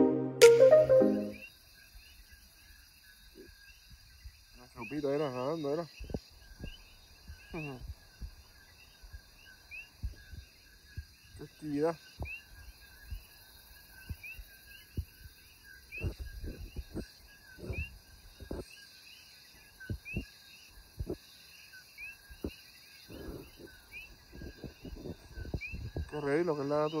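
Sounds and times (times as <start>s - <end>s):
faint insect hum: 1.5s - 27.0s
frogs chirping: 1.7s - 27.0s.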